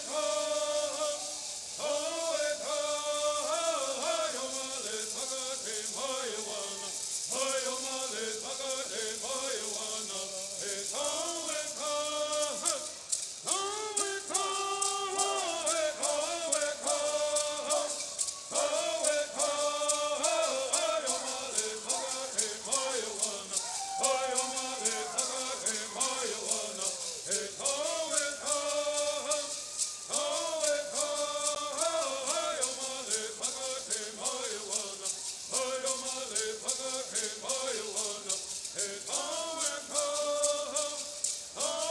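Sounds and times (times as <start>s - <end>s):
gourd rattles shaking: 0.0s - 41.9s
men singing: 0.0s - 41.9s.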